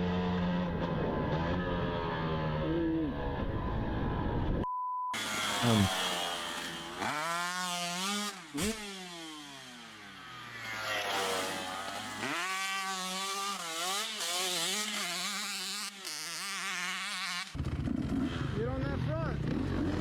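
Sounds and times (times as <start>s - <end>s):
dirt bike engine revving: 0.0s - 4.1s, 5.2s - 20.0s.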